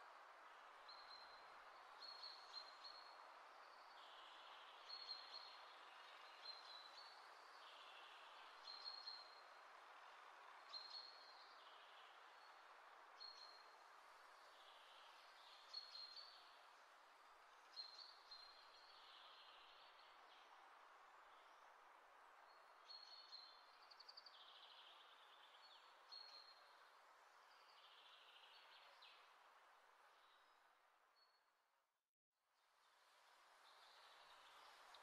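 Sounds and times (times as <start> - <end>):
faint steady hiss: 0.0 - 31.1, 32.6 - 35.0.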